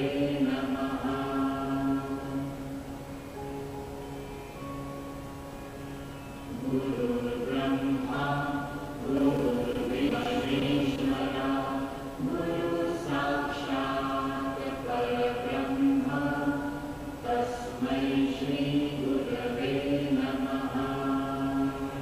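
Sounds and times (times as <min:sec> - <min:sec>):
voices chanting long notes: 0:00.0 - 0:22.0.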